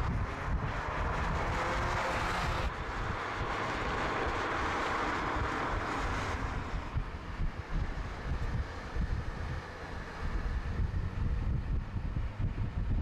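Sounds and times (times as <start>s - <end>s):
car engine at speed: 0.0s - 13.0s
wind noise on microphone: 0.0s - 13.0s.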